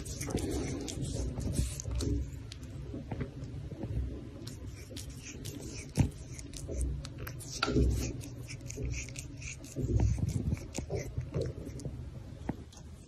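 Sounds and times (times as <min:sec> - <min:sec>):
cat licking fingers: 0:00.0 - 0:03.6, 0:04.3 - 0:11.9.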